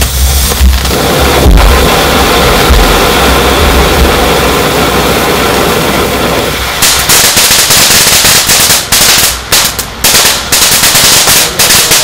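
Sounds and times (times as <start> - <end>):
firework fountain rushing and crackling: 0.0 - 12.0.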